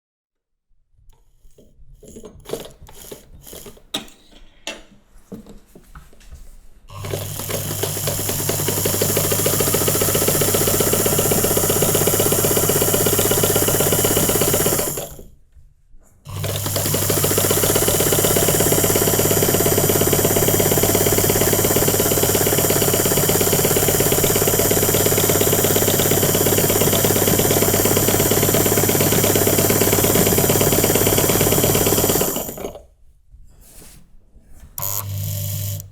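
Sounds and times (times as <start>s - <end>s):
sewing machine stitching: 1.2s - 4.2s, 6.9s - 15.4s, 16.3s - 32.9s, 34.8s - 35.9s.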